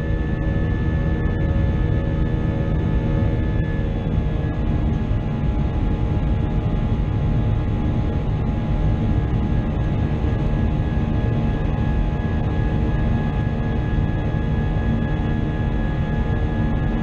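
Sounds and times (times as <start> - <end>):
jet engine cabin drone: 0.0 - 17.0.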